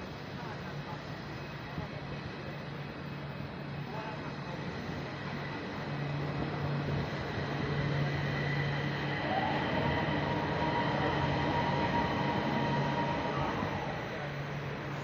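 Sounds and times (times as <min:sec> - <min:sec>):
train tyre running noise: 0:00.2 - 0:15.0.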